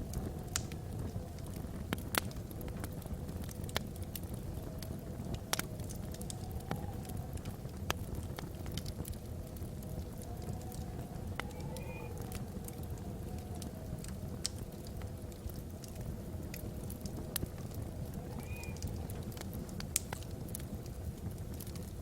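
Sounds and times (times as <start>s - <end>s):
logs burning in fireplace: 0.0s - 22.0s
soft wind howl: 0.0s - 22.0s.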